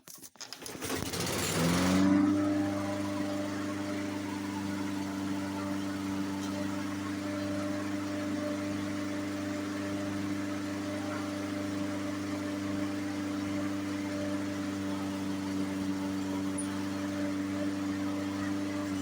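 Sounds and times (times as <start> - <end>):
push mower engine running: 0.5 - 19.0.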